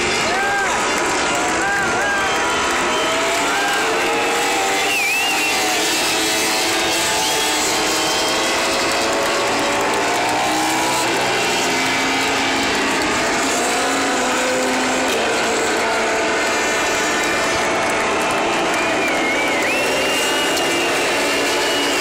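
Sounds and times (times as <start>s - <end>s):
crowd cheering: 0.0s - 22.0s
motorcycle engines: 0.0s - 22.0s.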